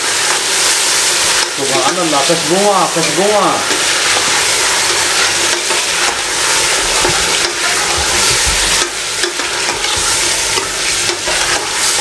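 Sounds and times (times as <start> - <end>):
food sizzling loudly in oil: 0.0 - 12.0.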